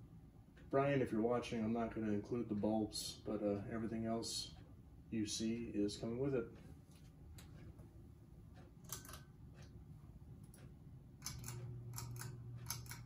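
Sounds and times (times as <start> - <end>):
ceiling fan motor humming: 0.0 - 13.0
faint clicks and ticks: 2.4 - 13.0.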